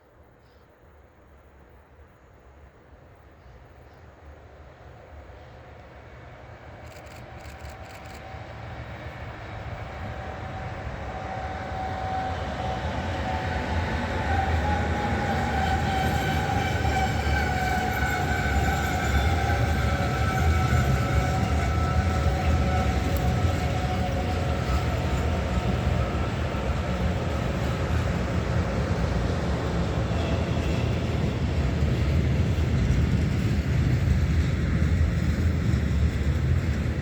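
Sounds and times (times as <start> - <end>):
train whine: 0.0 - 37.0
train rumble: 0.9 - 37.0.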